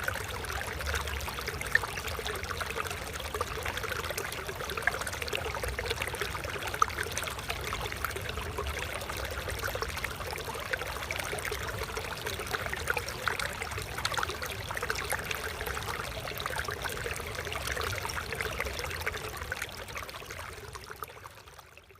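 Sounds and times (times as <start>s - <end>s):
stream trickling: 0.0s - 21.9s.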